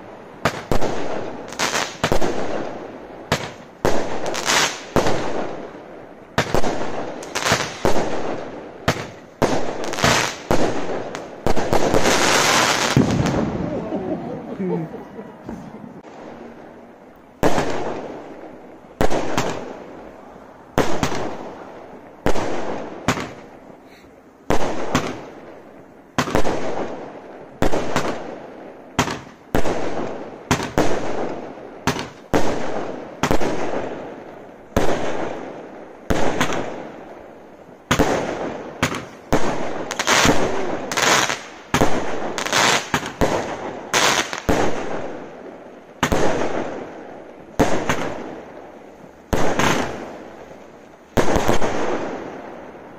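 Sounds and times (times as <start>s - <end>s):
firework bangs: 0.0s - 14.4s, 17.4s - 23.8s, 24.4s - 52.9s.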